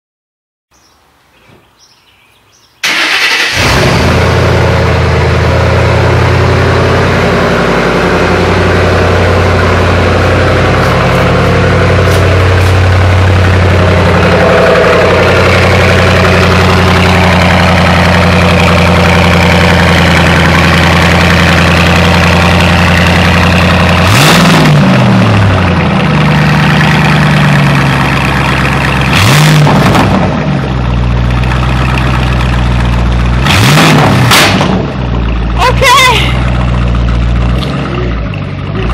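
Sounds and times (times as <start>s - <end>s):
car engine revving: 2.8s - 38.9s
car engine starting and idling: 2.8s - 38.9s.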